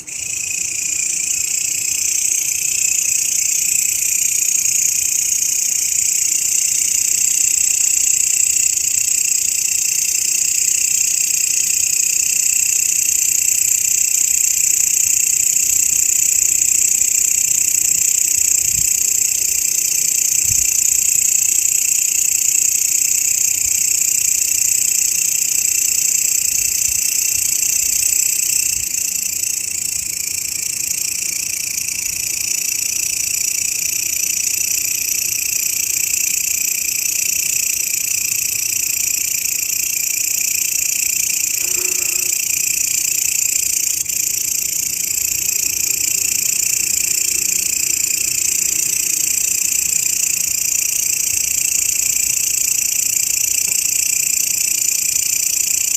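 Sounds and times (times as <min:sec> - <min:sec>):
grasshoppers stridulating: 0:00.0 - 0:55.9.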